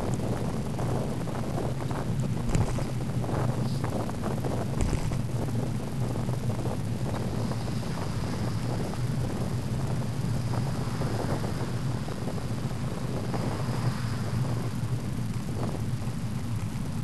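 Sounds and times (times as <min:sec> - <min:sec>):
bike rolling on road rumble: 0:00.0 - 0:17.0
wind buffeting microphone: 0:00.0 - 0:17.0.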